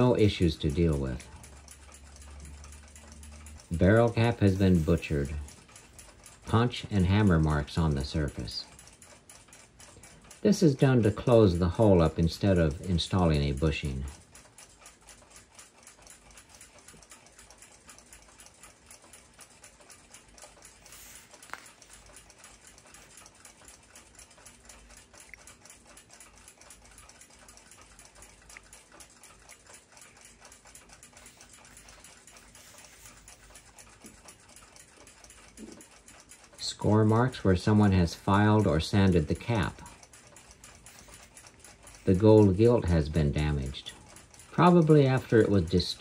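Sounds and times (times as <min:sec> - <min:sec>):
fast faint ticking: 0:00.0 - 0:46.0.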